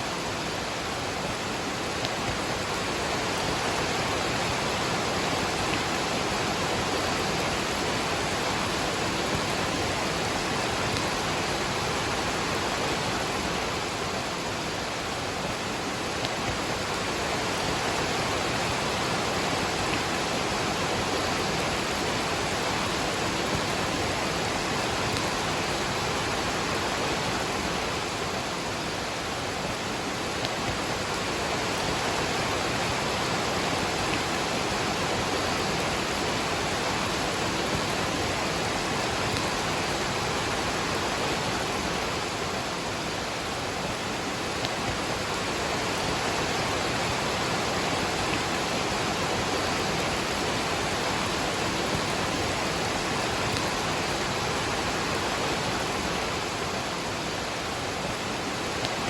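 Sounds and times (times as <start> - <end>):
falling rain: 0.0 - 59.0
waterfall rushing: 0.0 - 59.0.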